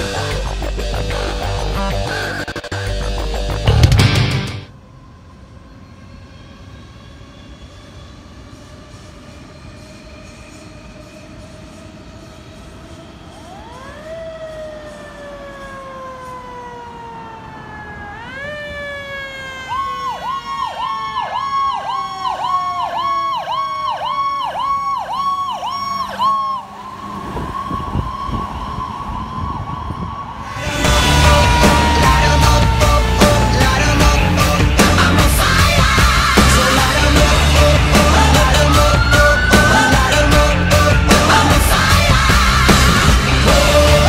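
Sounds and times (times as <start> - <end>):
fire truck engine rumbling: 0.0 - 5.8, 13.5 - 44.0
fire engine siren wailing: 0.0 - 44.0.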